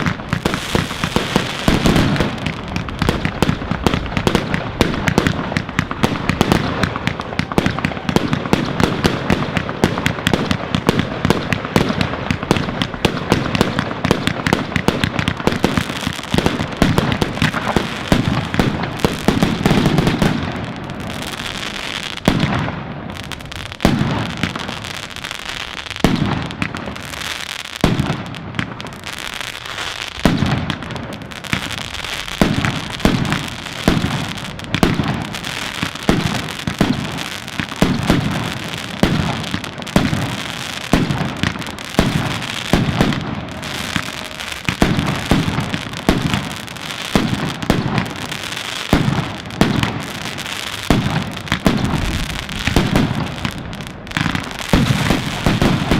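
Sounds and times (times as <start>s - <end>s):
fireworks crackling and banging: 0.0s - 55.9s.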